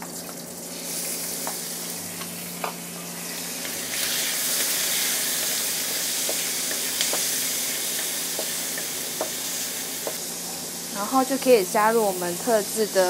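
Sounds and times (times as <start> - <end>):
food sizzling in oil in a wok: 0.0 - 13.0.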